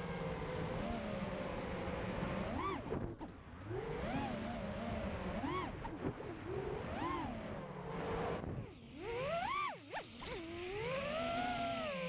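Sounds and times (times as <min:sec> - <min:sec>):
drone motors whining: 0:02.3 - 0:12.0.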